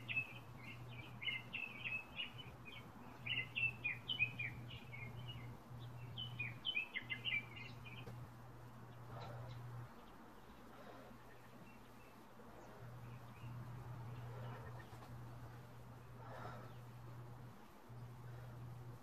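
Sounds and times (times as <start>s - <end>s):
songbirds chirping: 0.0s - 19.0s
steady low hum: 0.0s - 19.0s.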